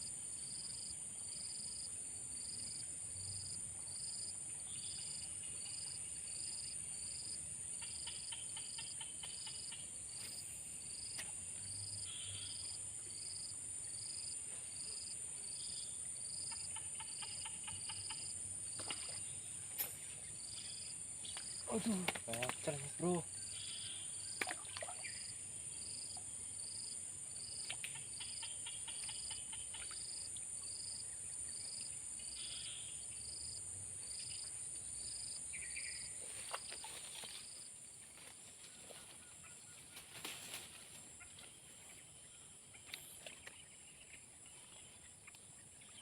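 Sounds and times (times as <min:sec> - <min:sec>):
insect drone: 0:00.0 - 0:46.0
shrill insect chirp: 0:00.4 - 0:41.1.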